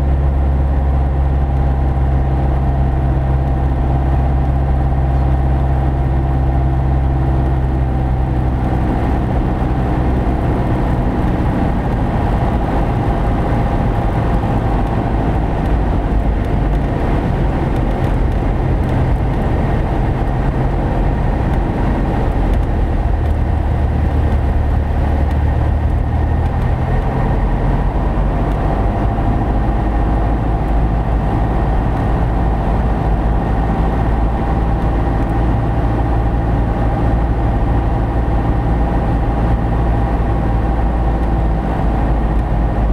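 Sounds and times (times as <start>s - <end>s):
propeller plane engine droning: 0.0s - 42.9s.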